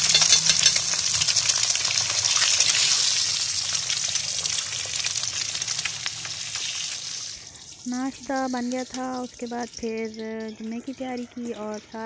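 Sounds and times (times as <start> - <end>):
eggs sizzling in oil: 0.0 - 12.0.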